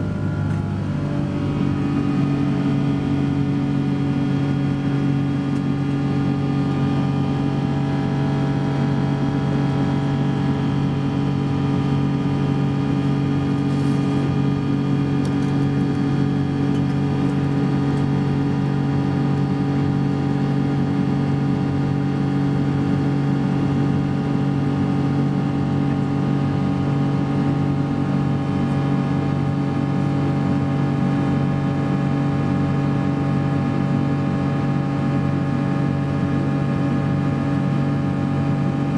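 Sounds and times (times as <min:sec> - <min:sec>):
airplane cabin engine hum: 0:00.0 - 0:38.9.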